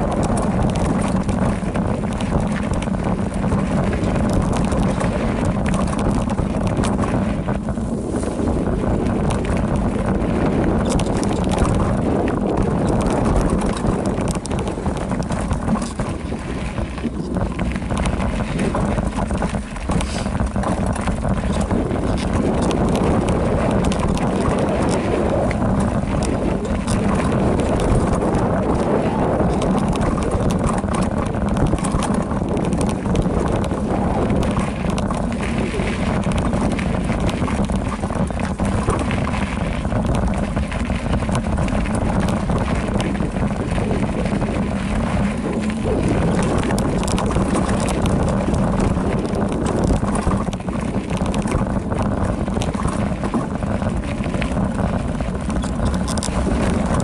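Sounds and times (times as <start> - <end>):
bike clattering over rough ground: 0.0 - 57.0
bike tyres running over dirt: 0.0 - 57.0
wind noise on microphone: 0.0 - 57.0.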